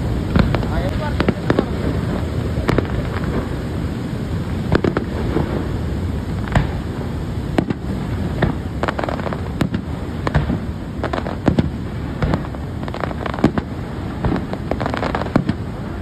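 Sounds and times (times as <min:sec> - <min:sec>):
continuous low rumble: 0:00.0 - 0:16.0
fireworks bursting: 0:00.0 - 0:16.0.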